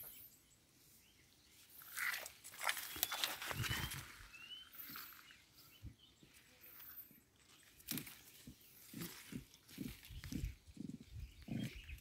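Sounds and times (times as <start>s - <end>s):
grass rustling and crackling: 1.6s - 12.0s.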